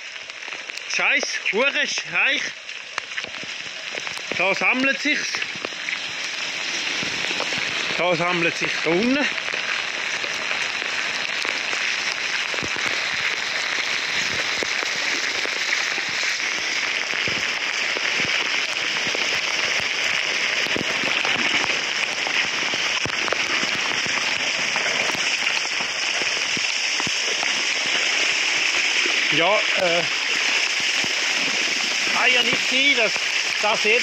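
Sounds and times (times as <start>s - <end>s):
heavy rain on road: 0.0s - 34.0s.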